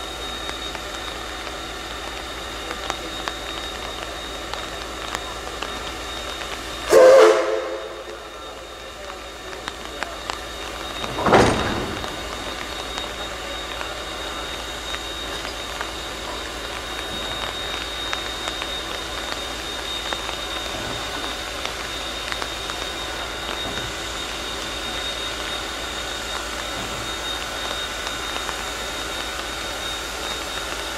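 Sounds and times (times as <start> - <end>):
loud burst of steam: 0.0 - 30.9
steam hissing with high tone: 0.0 - 30.9.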